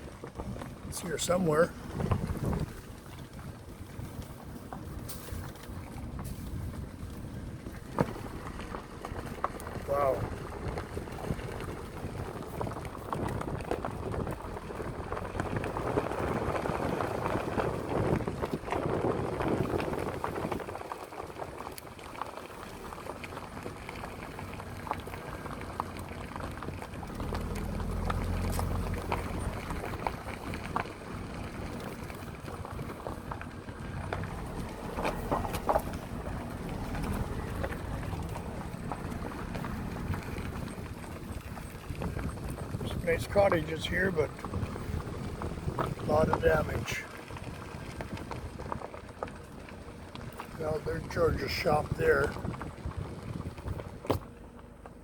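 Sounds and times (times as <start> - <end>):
vehicle engine and tyre noise: 0.0 - 55.0.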